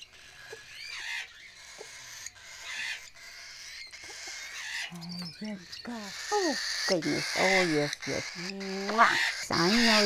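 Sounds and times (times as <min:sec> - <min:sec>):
young parrots chirping: 0:00.0 - 0:10.0.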